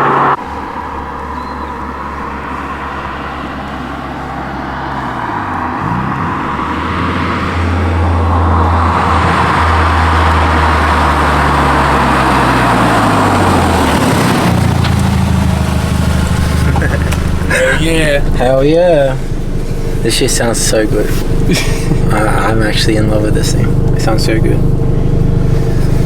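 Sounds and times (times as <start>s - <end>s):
car engine under load: 0.0s - 26.0s.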